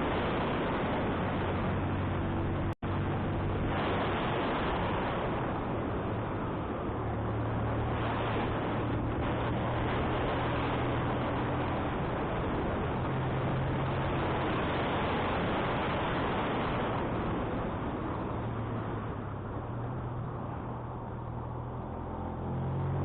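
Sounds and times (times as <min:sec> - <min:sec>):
motorcycle engine hum: 0:00.0 - 0:23.0
wind rushing over microphone: 0:00.0 - 0:23.0.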